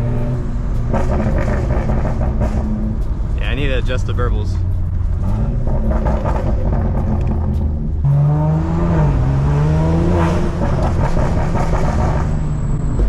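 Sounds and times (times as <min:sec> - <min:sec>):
car engine accelerating: 0:00.0 - 0:13.0
exhaust pops: 0:00.0 - 0:13.0.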